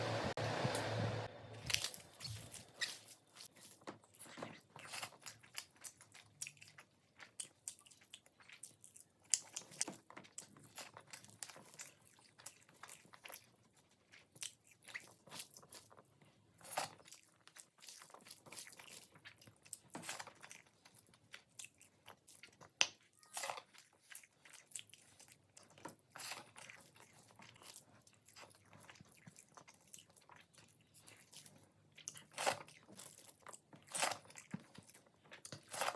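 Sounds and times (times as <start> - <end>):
person chewing crunchy food: 1.6 - 35.9.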